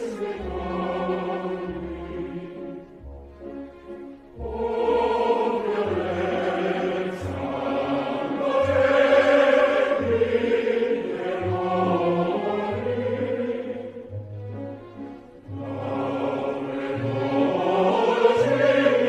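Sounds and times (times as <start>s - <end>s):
choir-like soundtrack music: 0.0s - 19.0s.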